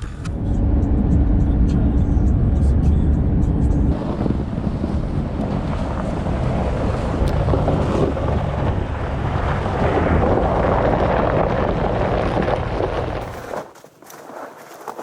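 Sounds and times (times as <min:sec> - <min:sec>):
vehicle engine rumbling: 0:00.0 - 0:13.9
wind buffeting microphone: 0:00.2 - 0:13.6.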